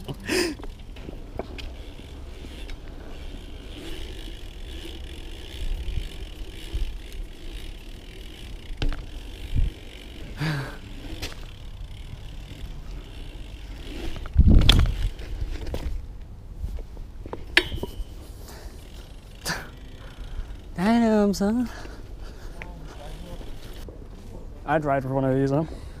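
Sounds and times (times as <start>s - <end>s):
bike tyres rumbling on paving: 0.0s - 25.1s
wind: 0.0s - 26.0s.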